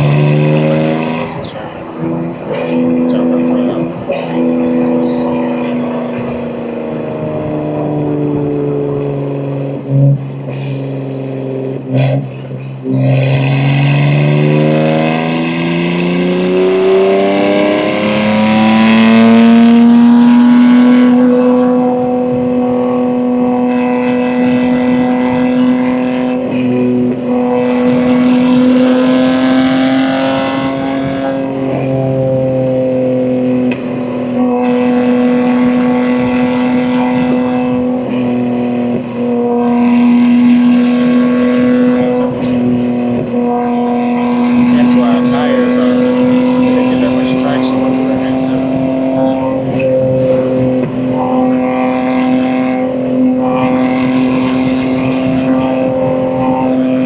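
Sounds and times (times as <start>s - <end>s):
car engine accelerating hard: 0.0s - 57.0s
car exhaust note: 0.0s - 57.0s.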